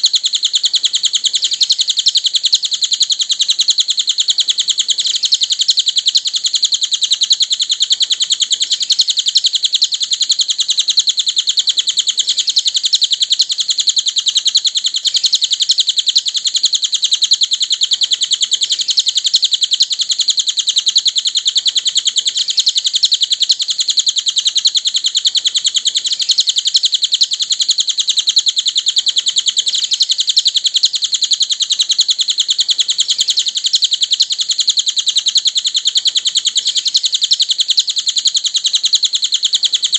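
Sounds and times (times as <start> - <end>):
songbird rapid high chirping: 0.0 - 39.9.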